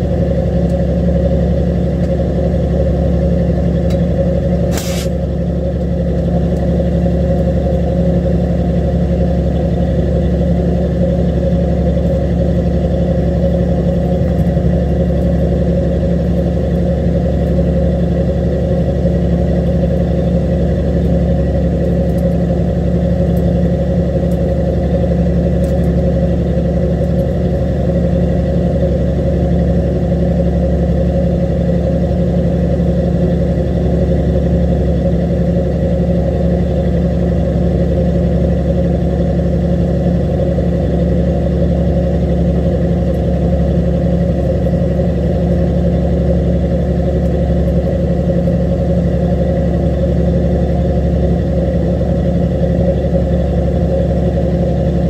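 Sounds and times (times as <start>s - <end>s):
boat engine running steadily: 0.0s - 55.0s.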